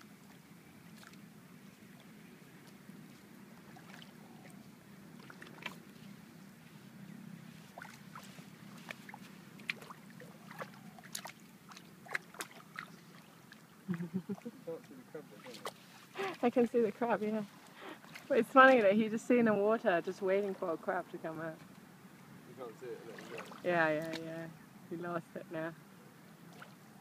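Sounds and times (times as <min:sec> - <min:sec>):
seawater sloshing and lapping: 0:00.0 - 0:24.4, 0:26.2 - 0:27.0
small splashes: 0:00.2 - 0:06.2, 0:07.6 - 0:19.0, 0:20.2 - 0:24.5, 0:26.4 - 0:27.0.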